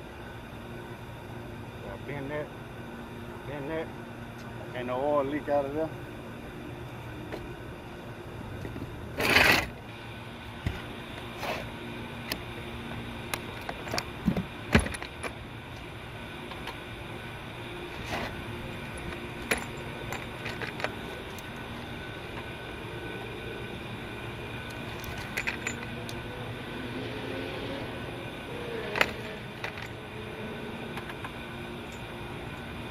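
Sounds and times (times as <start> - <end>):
steady mechanical hum: 0.0 - 32.9.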